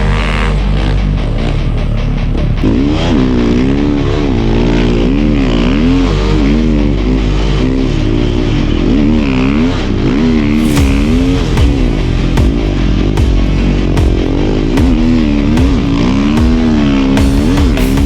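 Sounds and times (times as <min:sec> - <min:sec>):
snow bike engine revving: 0:00.0 - 0:18.0.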